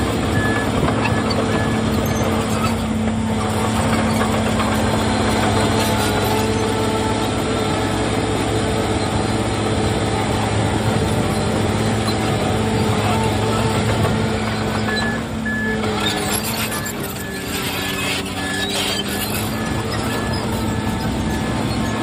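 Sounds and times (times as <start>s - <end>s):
diesel engine running: 0.0s - 22.0s
mechanical rumble and clatter: 0.0s - 22.0s.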